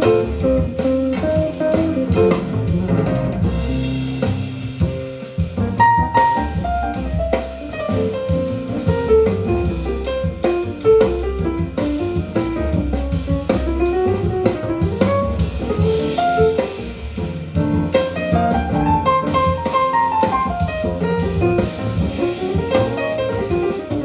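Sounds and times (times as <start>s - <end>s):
jazz over loudspeakers: 0.0s - 24.0s.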